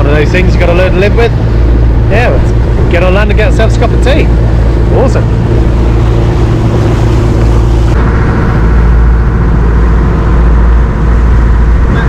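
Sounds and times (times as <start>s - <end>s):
boat engine rumbling: 0.0s - 12.0s
water noise: 0.0s - 12.0s
wind: 0.0s - 12.0s.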